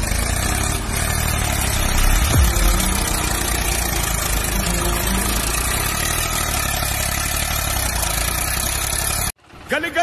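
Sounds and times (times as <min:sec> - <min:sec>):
tractor engine under heavy load: 0:00.0 - 0:09.7.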